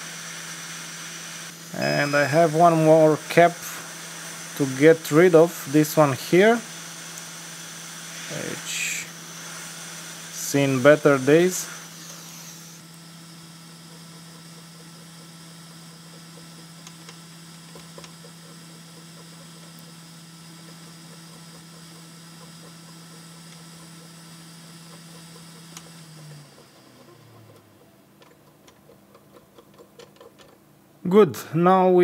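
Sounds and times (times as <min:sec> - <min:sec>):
hot air blower humming: 0:00.0 - 0:32.0.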